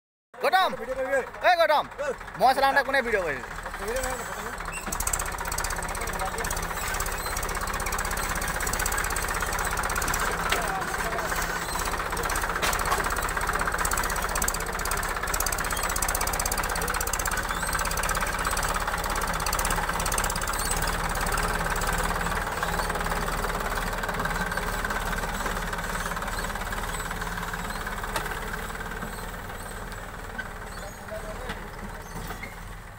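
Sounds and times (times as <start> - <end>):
tractor diesel engine under load: 0.4 - 32.9.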